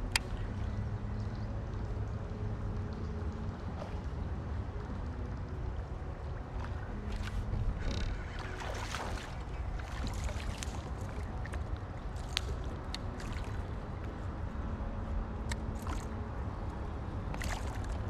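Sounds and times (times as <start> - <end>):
steady low rumble: 0.0 - 18.0
water lapping around kayak: 1.9 - 18.0.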